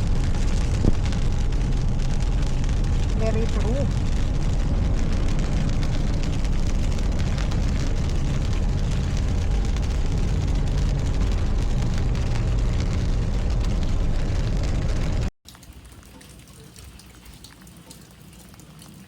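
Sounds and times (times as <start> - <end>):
car engine and road rumble: 0.0 - 15.4.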